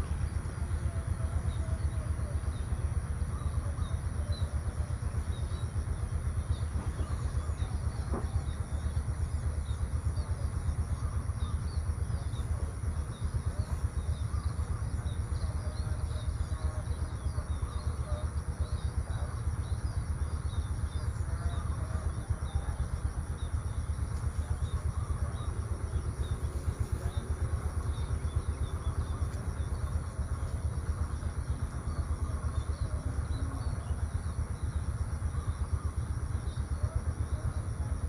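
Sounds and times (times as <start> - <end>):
faint high-pitched hum: 0.0 - 38.0
small birds chirping: 0.0 - 38.0
steady low rumble: 0.0 - 38.0.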